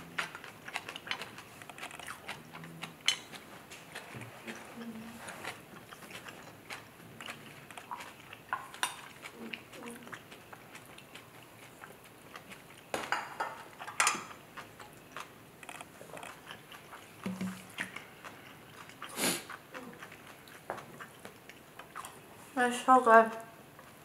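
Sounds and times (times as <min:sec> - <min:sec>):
person chewing noodles: 0:00.0 - 0:22.6, 0:23.6 - 0:24.0.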